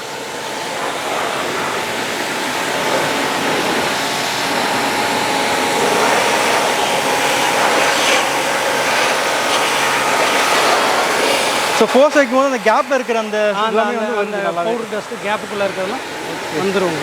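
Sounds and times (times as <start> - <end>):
faint steady whine: 0.0 - 17.0
pressure washer spraying: 0.0 - 17.0.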